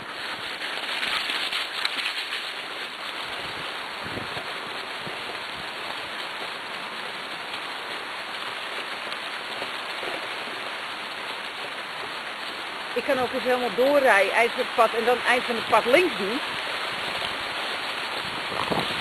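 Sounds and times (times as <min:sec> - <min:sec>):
cart wheels rolling over dry leaves: 0:00.0 - 0:19.0.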